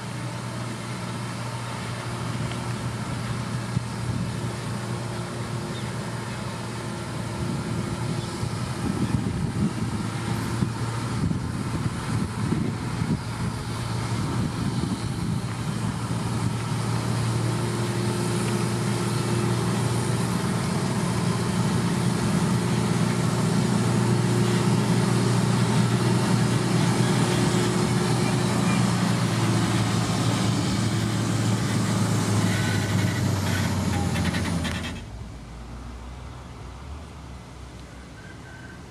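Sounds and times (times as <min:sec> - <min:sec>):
diesel engine of heavy machinery: 0:00.0 - 0:38.9.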